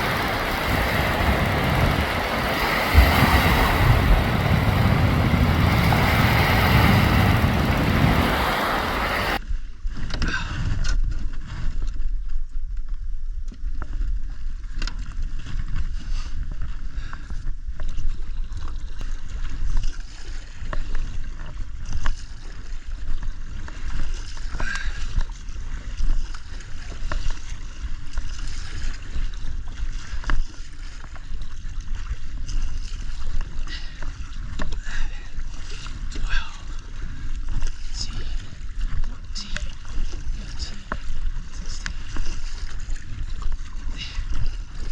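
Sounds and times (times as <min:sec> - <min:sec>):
paddle strokes splashing water: 0:00.0 - 0:09.4, 0:17.8 - 0:44.9
wind rumble on microphone: 0:00.0 - 0:44.9.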